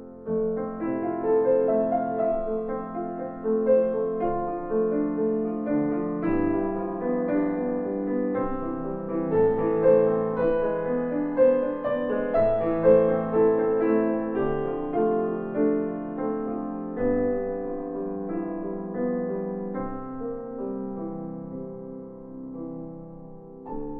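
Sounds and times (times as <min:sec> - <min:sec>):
gentle piano music: 0:00.0 - 0:23.9.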